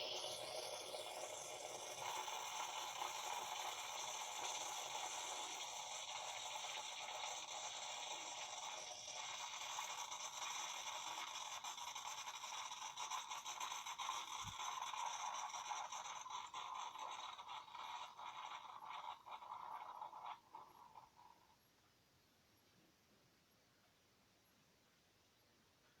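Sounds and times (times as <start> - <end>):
coffee maker hissing and sputtering: 0.0 - 21.6.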